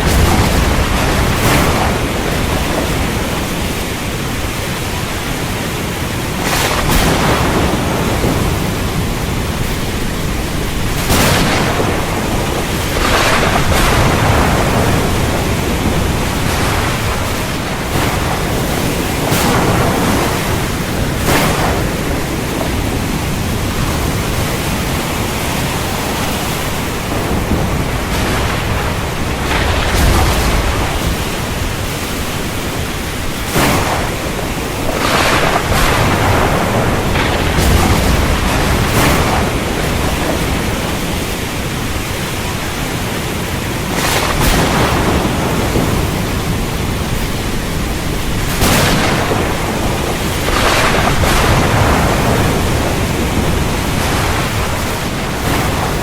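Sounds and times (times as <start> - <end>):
heavy rain: 0.0 - 56.0
thunder rumbling: 0.0 - 56.0.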